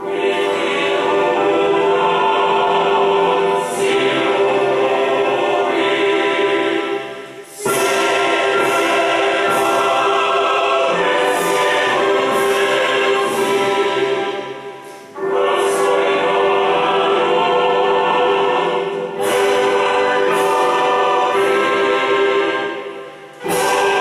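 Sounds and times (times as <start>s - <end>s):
choir singing long held notes: 0.0s - 24.0s.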